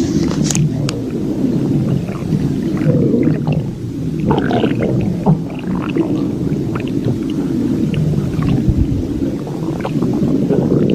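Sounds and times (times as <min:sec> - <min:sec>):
stomach growling: 0:00.0 - 0:10.9.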